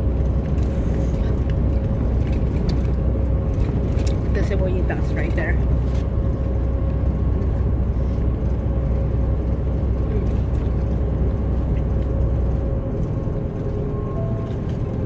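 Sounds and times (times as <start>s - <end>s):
truck engine and road drone: 0.0s - 15.0s.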